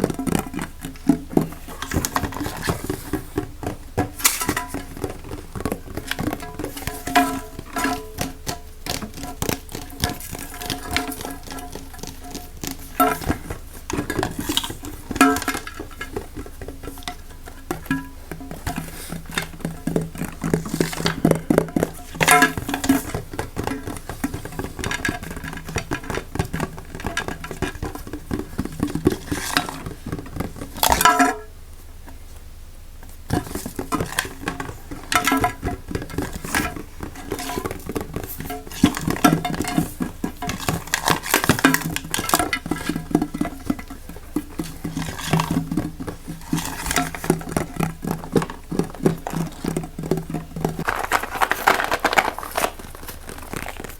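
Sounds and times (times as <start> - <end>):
fast tapping and scratching: 0.0 - 31.3, 33.1 - 53.9.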